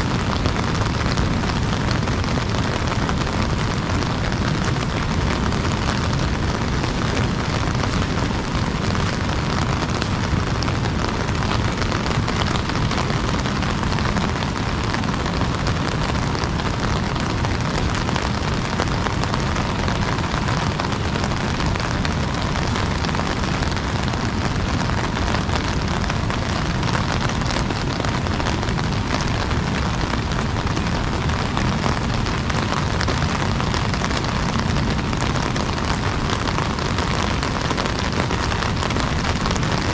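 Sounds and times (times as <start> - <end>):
deep continuous rumble: 0.0 - 39.9
heavy rain on an umbrella: 0.0 - 39.9.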